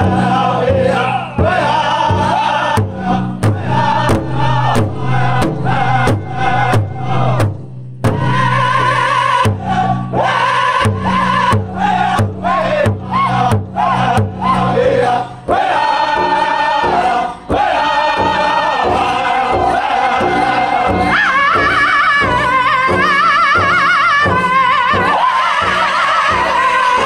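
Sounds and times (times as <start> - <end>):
large drum beating: 0.0 - 27.0
men singing in unison: 0.0 - 27.0.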